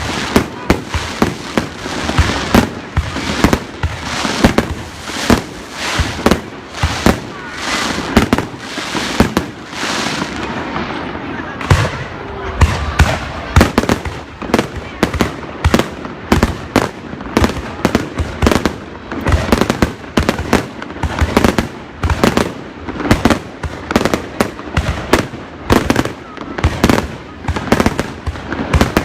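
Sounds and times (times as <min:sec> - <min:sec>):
fireworks bangs: 0:00.0 - 0:29.0.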